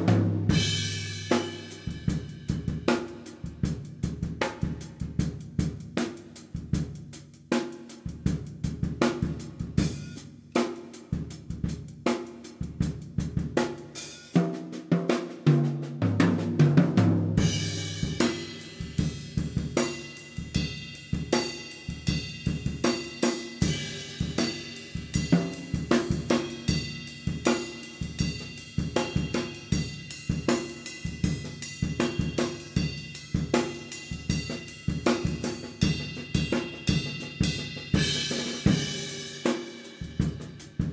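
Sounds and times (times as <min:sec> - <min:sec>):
drum kit groove: 0:00.0 - 0:40.9.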